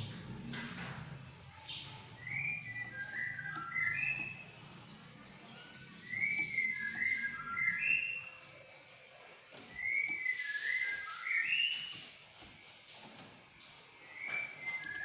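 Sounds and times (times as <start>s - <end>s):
bird singing whistled notes: 1.8s - 8.6s, 9.6s - 15.0s.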